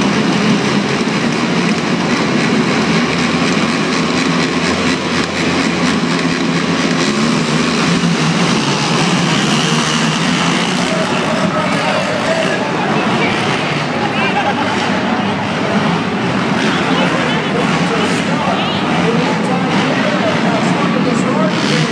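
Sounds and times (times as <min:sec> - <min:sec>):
quad engines running together: 0:00.0 - 0:21.9.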